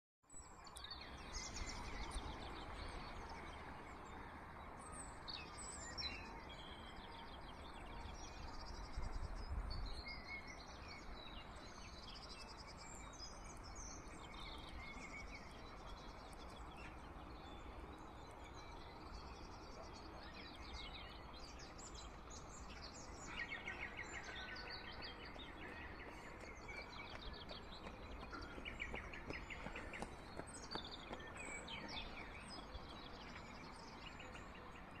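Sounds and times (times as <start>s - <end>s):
birds chirping and trilling: 0.3s - 35.0s.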